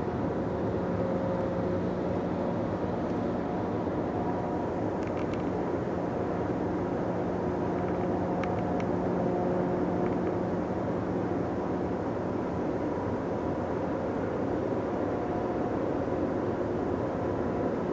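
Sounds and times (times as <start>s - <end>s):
distant industrial machinery drone: 0.0s - 17.9s.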